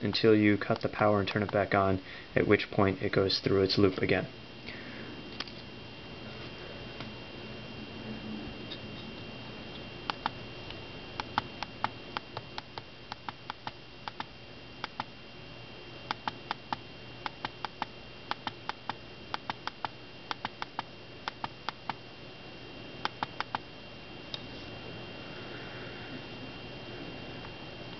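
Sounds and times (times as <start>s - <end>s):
faint high whine: 0.0s - 27.9s.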